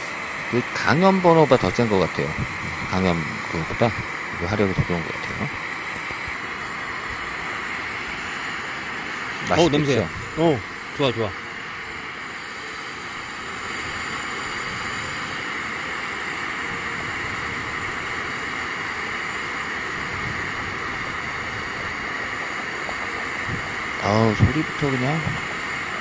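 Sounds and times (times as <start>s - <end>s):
pressure burner roaring: 0.0s - 26.0s.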